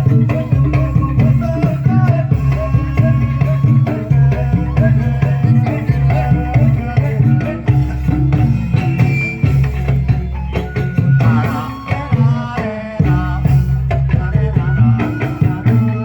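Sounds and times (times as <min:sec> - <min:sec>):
band music: 0:00.0 - 0:16.0
drum beat: 0:00.0 - 0:16.0.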